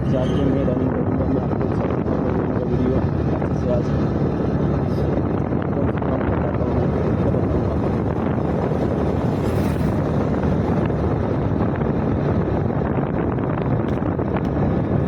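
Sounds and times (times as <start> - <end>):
scooter engine and road noise: 0.0 - 15.0
wind buffeting microphone: 0.0 - 15.0.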